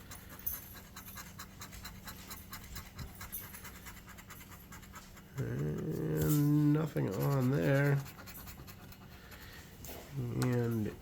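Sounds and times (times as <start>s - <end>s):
lottery ticket being scratched: 0.0s - 9.5s, 10.1s - 11.0s.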